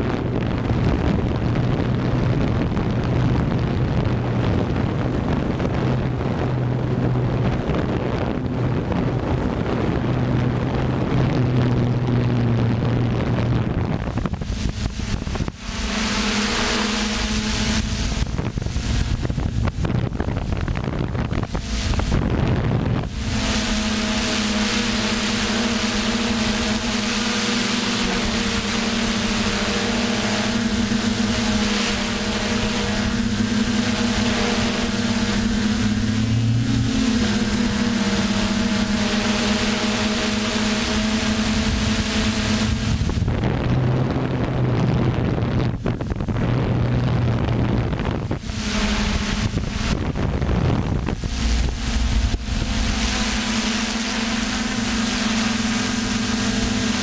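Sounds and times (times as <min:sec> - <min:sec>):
quadcopter motors humming: 0:00.0 - 0:57.0
wind buffeting microphone: 0:00.0 - 0:57.0.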